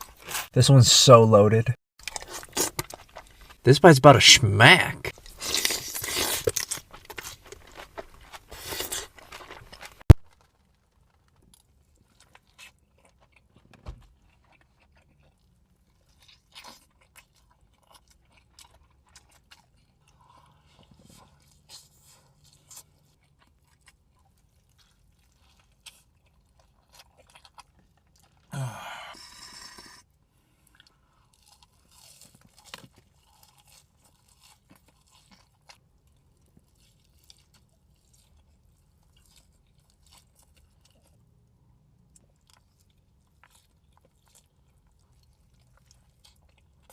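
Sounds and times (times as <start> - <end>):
crunching and chewing food: 0.0 - 0.5, 2.0 - 3.6, 5.1 - 46.9.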